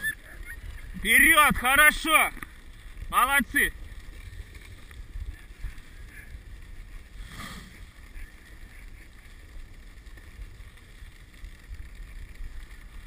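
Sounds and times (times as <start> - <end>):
sled runners hissing over snow: 0.0 - 13.0.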